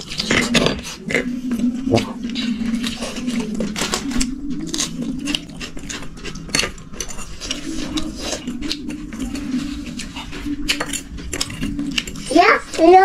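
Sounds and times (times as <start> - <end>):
crunching and chewing: 0.0 - 12.3
steady low hum: 0.0 - 13.0.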